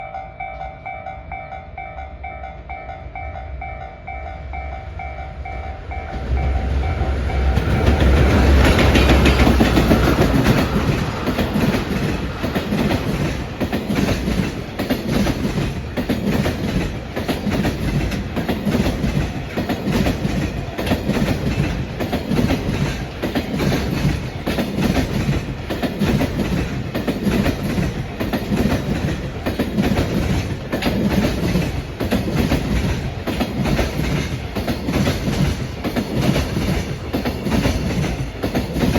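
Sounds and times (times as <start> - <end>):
electric locomotive passing: 0.0 - 38.9
wheels clattering over rail joints: 6.2 - 38.9.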